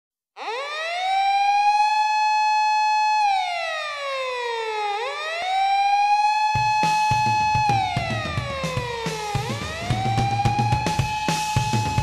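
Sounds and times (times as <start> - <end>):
siren wailing: 0.4 - 12.0.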